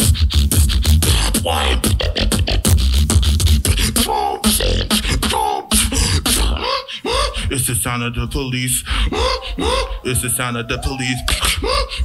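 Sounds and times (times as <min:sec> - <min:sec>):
beatboxing through a microphone: 0:00.0 - 0:12.0.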